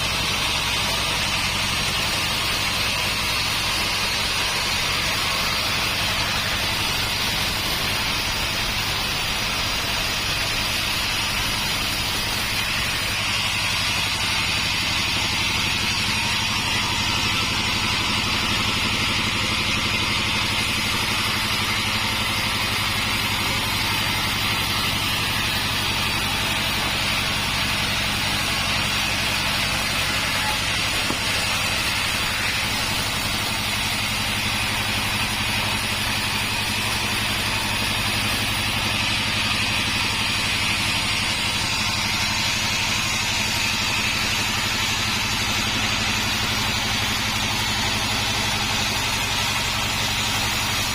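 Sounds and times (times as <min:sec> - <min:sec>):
saw blade hissing: 0:00.0 - 0:50.9
sawmill drive humming: 0:00.0 - 0:50.9.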